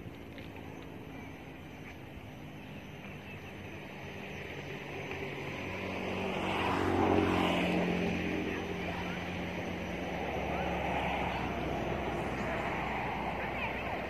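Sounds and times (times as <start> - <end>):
vehicle engine passing by: 2.1 - 14.0.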